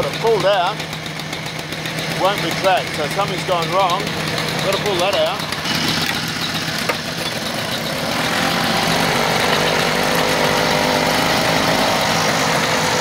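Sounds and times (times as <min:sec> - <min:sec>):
lawn mower engines running: 0:00.0 - 0:13.0.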